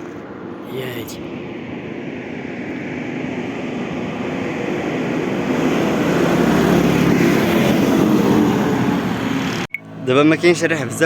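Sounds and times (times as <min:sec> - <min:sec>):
road noise: 0:00.0 - 0:11.0
vehicle engine passing by: 0:01.2 - 0:11.0.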